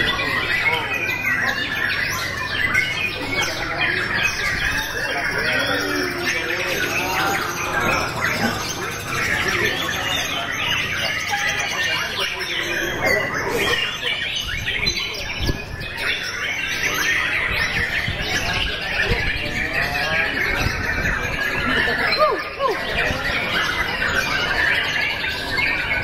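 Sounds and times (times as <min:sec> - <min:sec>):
birds singing chirps and trills: 0:00.0 - 0:26.0.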